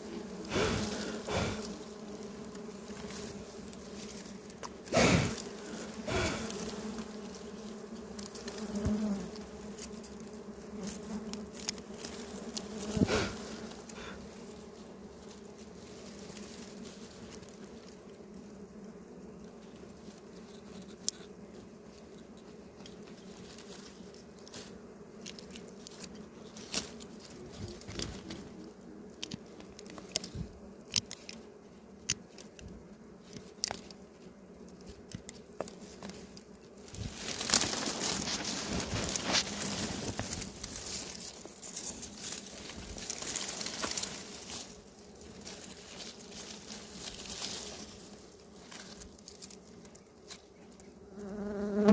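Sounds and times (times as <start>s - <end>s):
honeybees buzzing: 0.0s - 51.9s.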